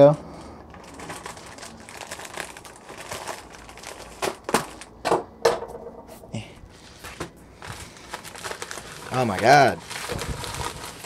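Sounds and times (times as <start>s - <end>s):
rustling and crinkling handling: 0.0s - 5.0s, 6.7s - 11.0s.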